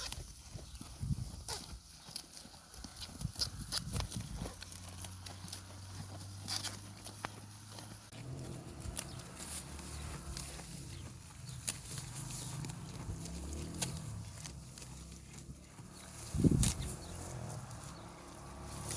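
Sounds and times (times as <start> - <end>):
farm animals moving about: 0.0 - 18.9.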